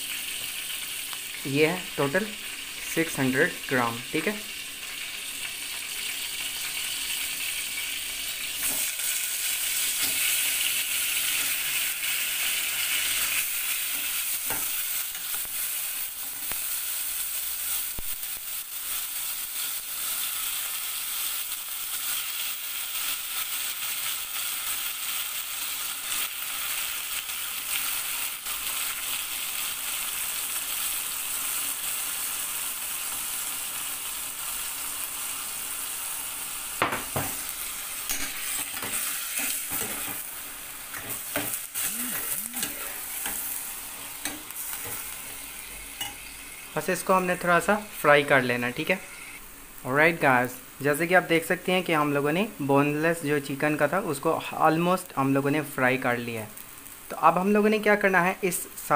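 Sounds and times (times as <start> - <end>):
chicken sizzling in hot oil: 0.0 - 58.9.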